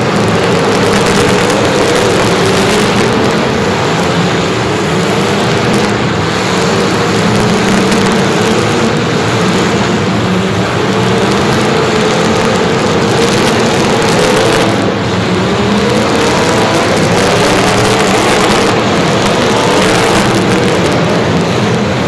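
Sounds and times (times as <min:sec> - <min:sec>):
constant rushing noise: 0:00.0 - 0:22.0
engine running loudly: 0:00.0 - 0:22.0.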